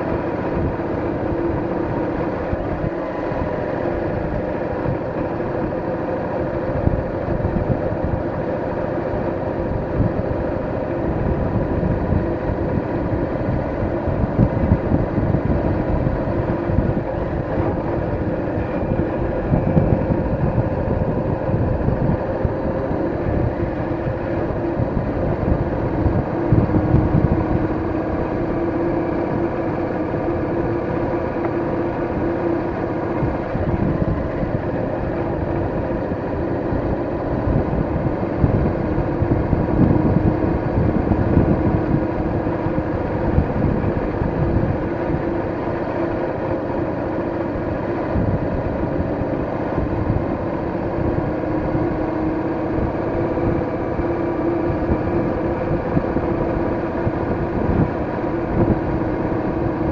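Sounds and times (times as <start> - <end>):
motorcycle engine running: 0.0 - 59.9
wind rumbling on microphone: 0.0 - 59.9.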